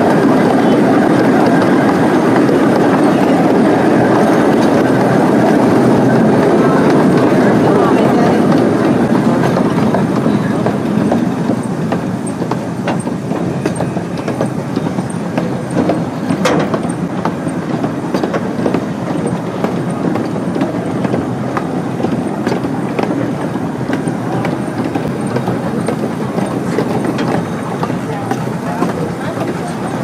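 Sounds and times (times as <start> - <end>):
small train rolling rumble: 0.0 - 30.0
wheels clicking on rails: 0.0 - 30.0.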